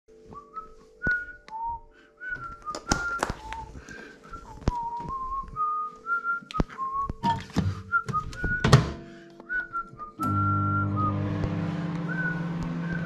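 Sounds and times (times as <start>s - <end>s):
person whistling a slow tune: 0.2s - 11.3s, 11.9s - 13.0s.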